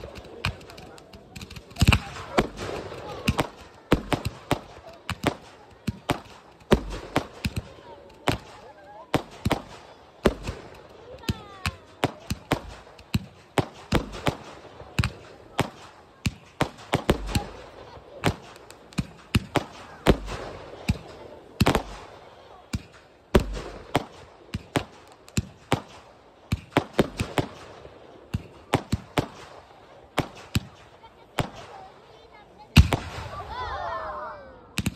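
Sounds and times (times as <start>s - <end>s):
fireworks launching and bursting: 0.0s - 34.9s.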